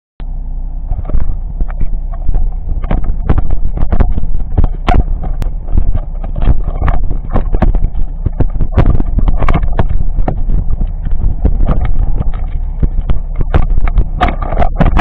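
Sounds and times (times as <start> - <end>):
low engine rumble: 0.2 - 15.0
knocks and rattles: 0.9 - 15.0.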